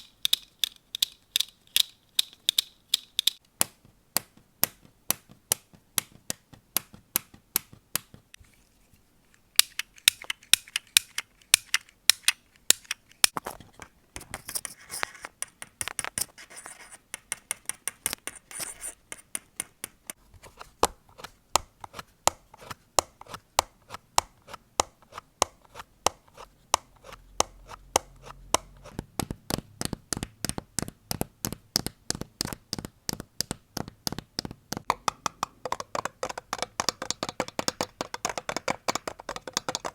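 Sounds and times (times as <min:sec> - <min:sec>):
sharp clicks and taps: 0:00.0 - 0:08.4, 0:09.6 - 0:13.4, 0:14.2 - 0:20.2, 0:20.8 - 0:39.9.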